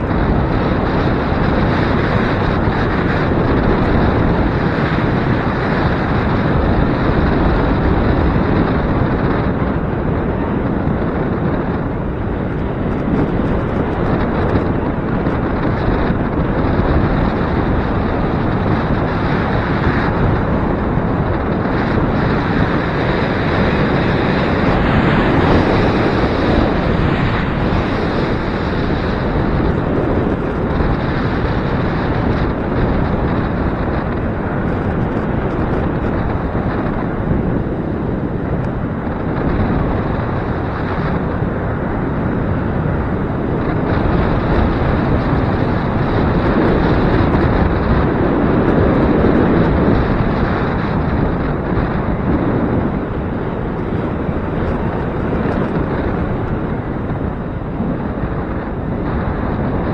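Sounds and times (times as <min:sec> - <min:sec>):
gusty wind buffeting microphone: 0:00.0 - 0:59.9.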